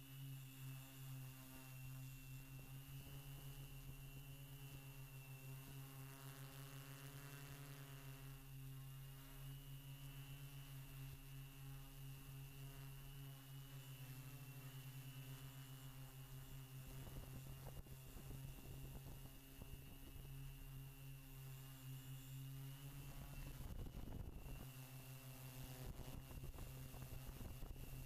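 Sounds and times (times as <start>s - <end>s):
drone hovering hum and whine: 0.0s - 28.0s.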